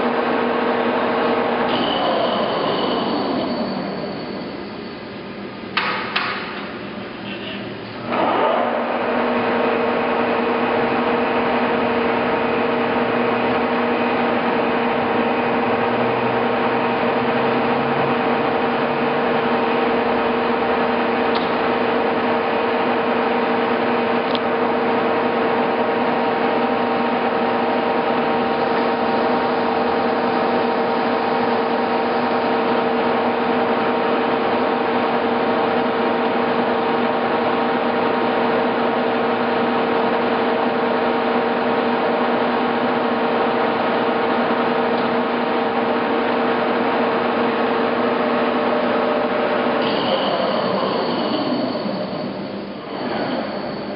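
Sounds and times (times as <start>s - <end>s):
lathe running with steady hum: 0.0s - 53.9s.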